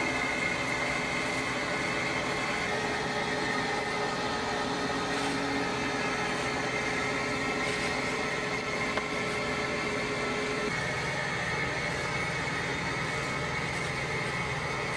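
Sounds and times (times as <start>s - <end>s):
kitchen equipment drone: 0.0s - 14.9s.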